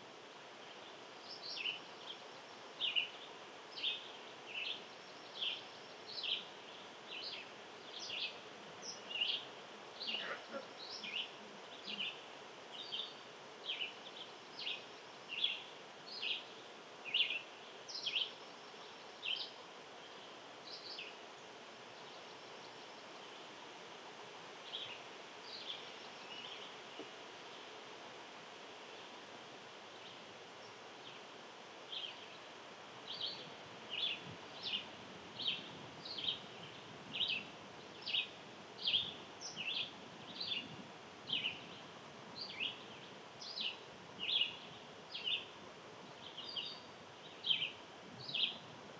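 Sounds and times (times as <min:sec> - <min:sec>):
outdoor hiss: 0:00.0 - 0:48.9.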